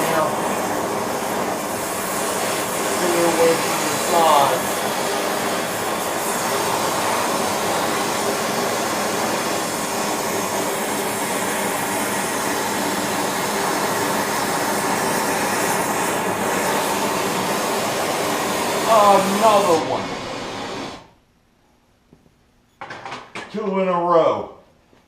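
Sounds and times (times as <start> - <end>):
gas burner roaring: 0.0 - 21.2.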